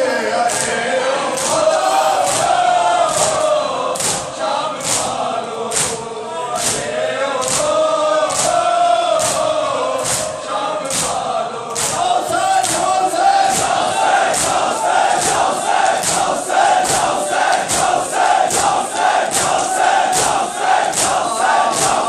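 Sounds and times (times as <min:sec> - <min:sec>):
men chanting in unison: 0:00.0 - 0:22.0
hands slapping chests: 0:00.5 - 0:06.0, 0:06.6 - 0:22.0.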